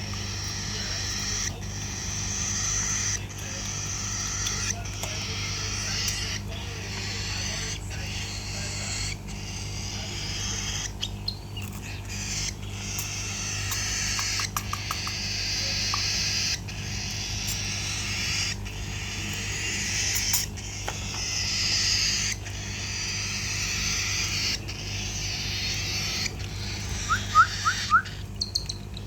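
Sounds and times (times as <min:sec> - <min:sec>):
baby cockatiel begging calls: 0:00.1 - 0:28.8.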